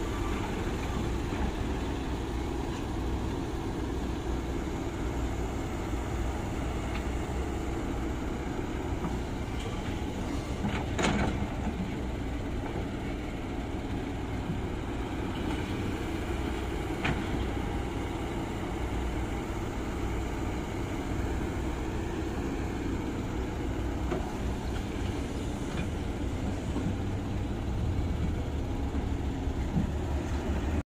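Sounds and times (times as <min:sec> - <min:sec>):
excavator diesel engine: 0:00.0 - 0:30.8.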